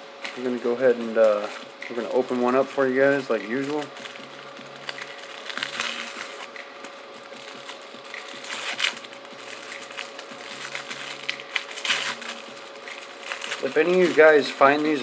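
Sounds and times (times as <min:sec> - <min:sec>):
paper wrapper crinkling and tearing: 0:00.3 - 0:15.0.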